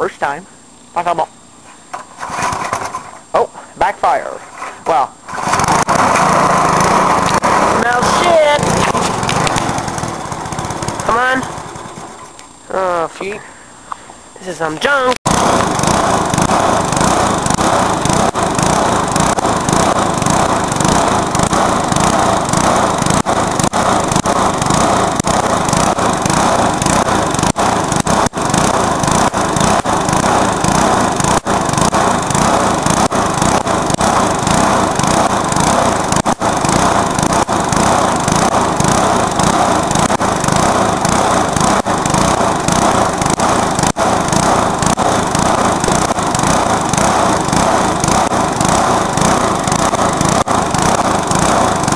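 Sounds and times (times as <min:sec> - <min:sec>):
lawnmower engine running loud: 0:01.7 - 0:51.9.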